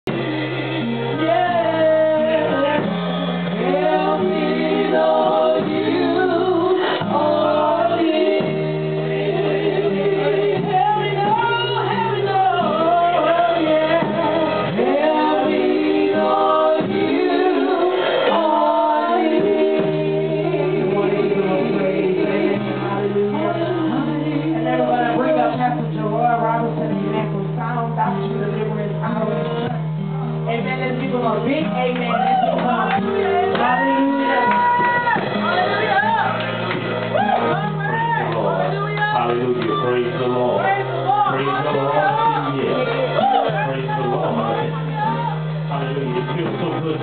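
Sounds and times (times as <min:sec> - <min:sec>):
gospel worship singing: 0:00.1 - 0:47.0.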